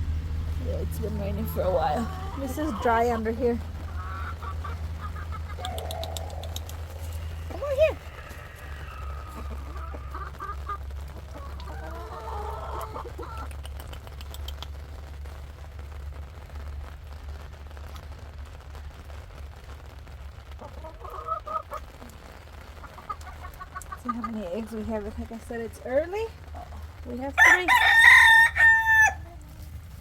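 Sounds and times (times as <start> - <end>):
hens clucking: 0.0 - 14.9, 20.6 - 30.0
steady low rumble: 0.0 - 30.0.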